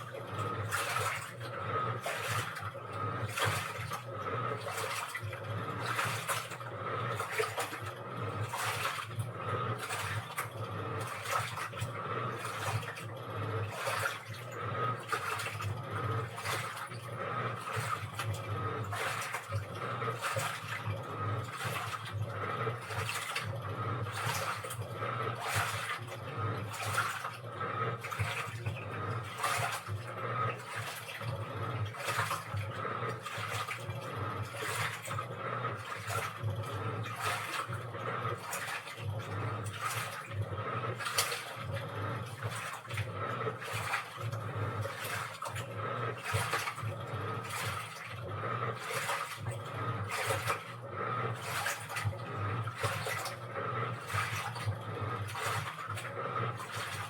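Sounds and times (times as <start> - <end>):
washing machine motor hum: 0.0 - 57.0
water sloshing in washing machine: 0.0 - 57.0.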